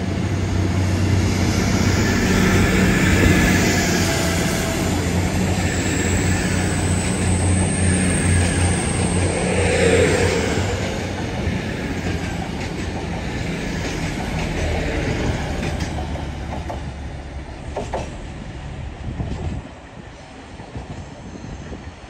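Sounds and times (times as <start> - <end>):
diesel train engine drone: 0.0 - 22.0
rail and wheel rumble: 0.0 - 22.0.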